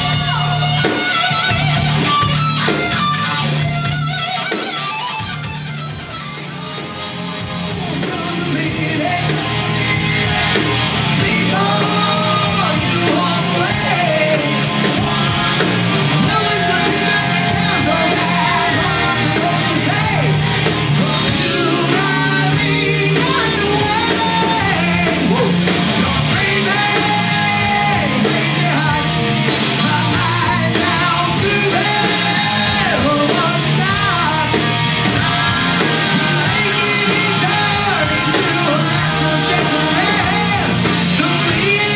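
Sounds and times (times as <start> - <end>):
bass guitar: 0.0 - 41.9
drum kit: 0.0 - 41.9
electric guitar: 0.0 - 41.9
person singing: 6.1 - 41.9.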